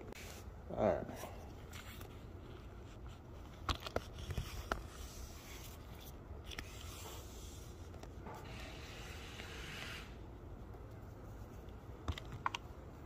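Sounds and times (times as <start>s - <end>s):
faint rubbing and scraping: 1.1s - 11.7s.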